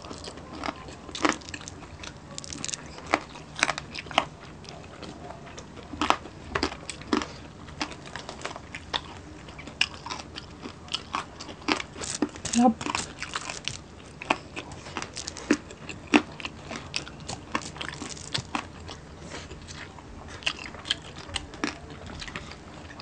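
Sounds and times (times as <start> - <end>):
chewing and biting: 0.0 - 23.0
food crunching: 0.0 - 23.0.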